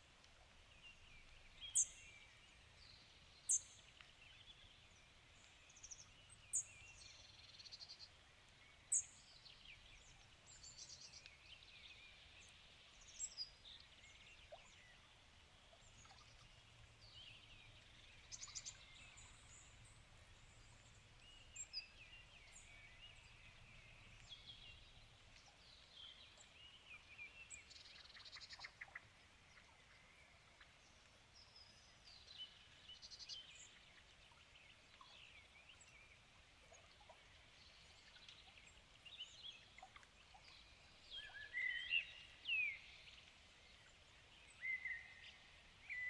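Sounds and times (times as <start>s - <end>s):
songbirds singing and chirping: 0.8s - 46.0s.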